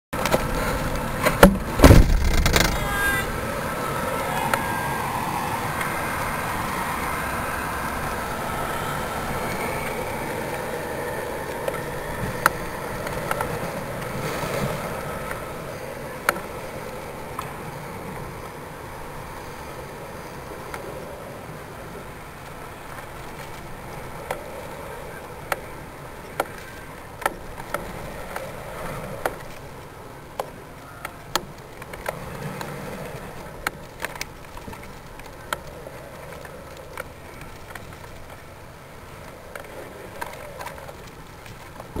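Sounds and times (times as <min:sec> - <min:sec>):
steady rushing noise: 0:00.2 - 0:42.0.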